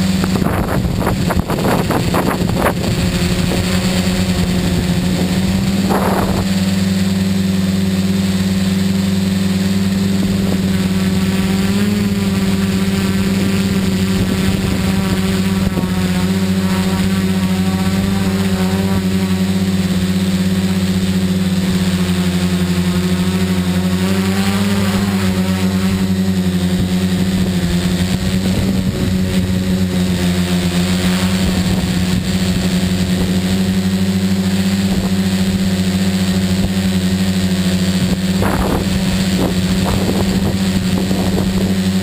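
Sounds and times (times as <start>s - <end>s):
drone propellers whirring: 0.0s - 42.0s
noisy rush: 0.0s - 42.0s.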